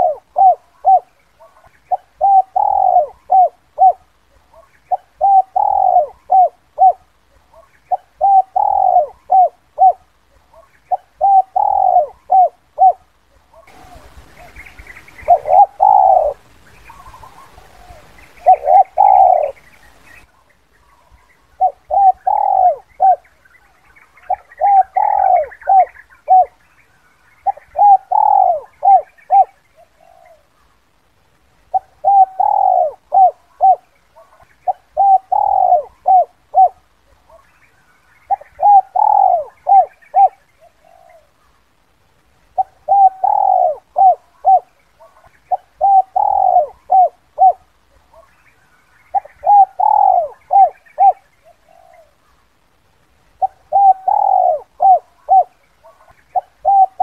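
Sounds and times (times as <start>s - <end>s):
dove cooing: 0.0s - 26.7s, 27.4s - 30.6s, 31.7s - 37.5s, 38.1s - 41.5s, 42.5s - 48.4s, 49.0s - 52.3s, 53.4s - 57.0s
faint bird chirps: 0.0s - 31.0s, 31.6s - 57.0s.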